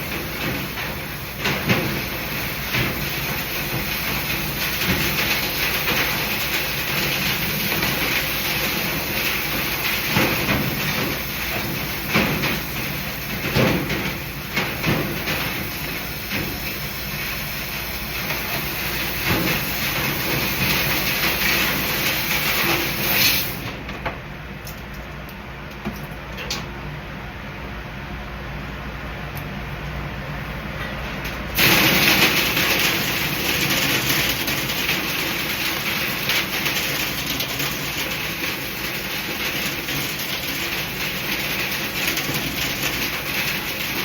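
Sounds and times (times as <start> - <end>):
air rushing through duct: 0.0 - 24.5, 31.4 - 44.0
low machine hum: 0.0 - 38.6.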